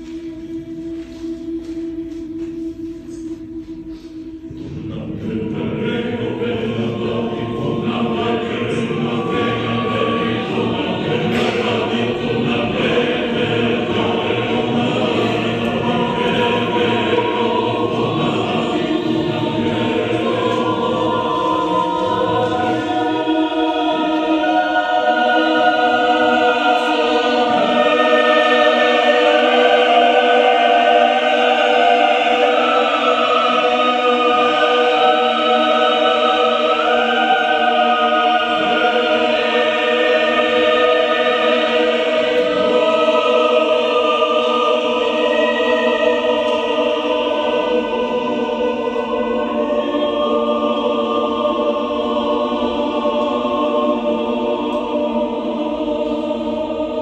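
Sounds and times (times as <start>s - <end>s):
choir singing unaccompanied: 0.0s - 57.0s.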